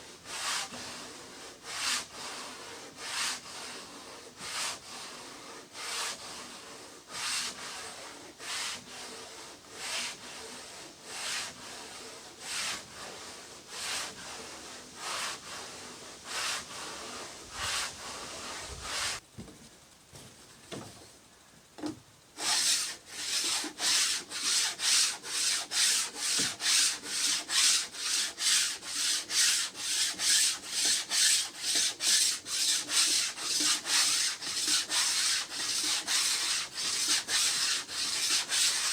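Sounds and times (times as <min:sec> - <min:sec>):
hand sanding wood: 0:00.0 - 0:19.2, 0:22.4 - 0:38.9.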